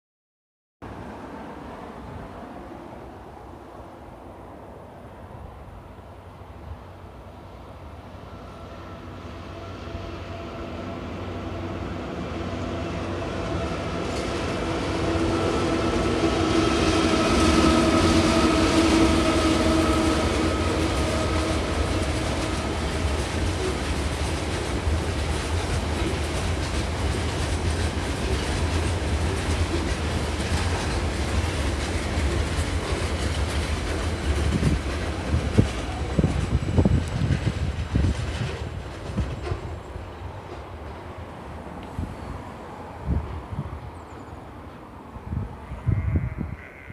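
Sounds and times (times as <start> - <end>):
diesel locomotive engines: 0.8 - 46.9
train wheels on rails: 7.0 - 45.5.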